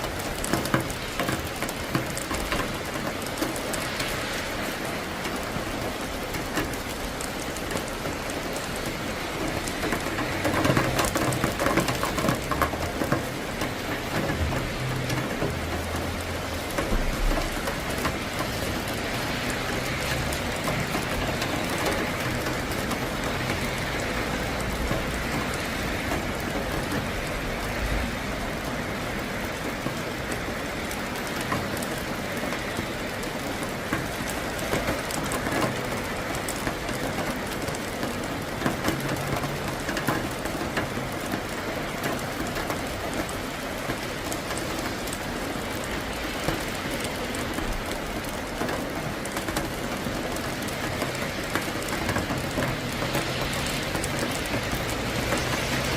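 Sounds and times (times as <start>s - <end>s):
rain on hard surfaces: 0.0s - 55.9s.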